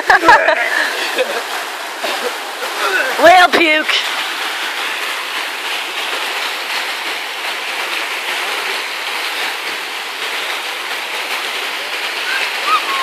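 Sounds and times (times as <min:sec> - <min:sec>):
fountains spraying water: 0:00.0 - 0:13.0.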